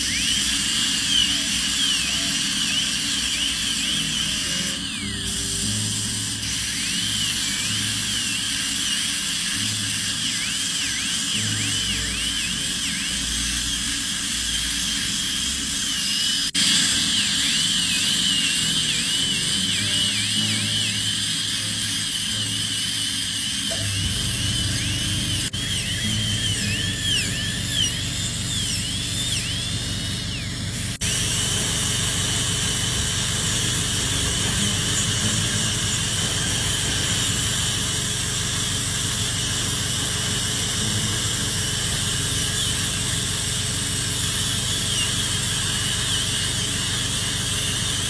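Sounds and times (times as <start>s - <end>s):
dental drill whining: 0.0s - 48.0s.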